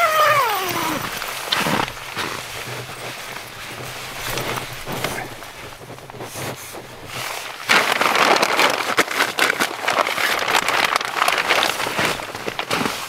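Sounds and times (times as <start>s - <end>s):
tent fabric and bags rustling: 0.0s - 13.0s.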